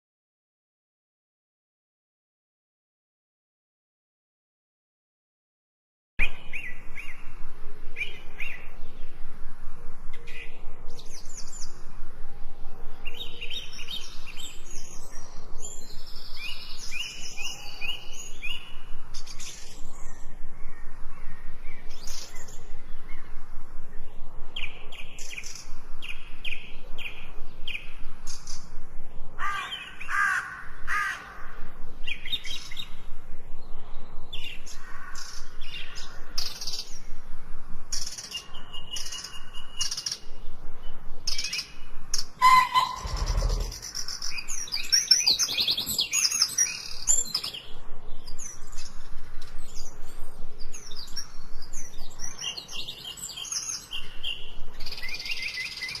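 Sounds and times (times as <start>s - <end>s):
birds chirping and trilling: 6.2s - 56.0s.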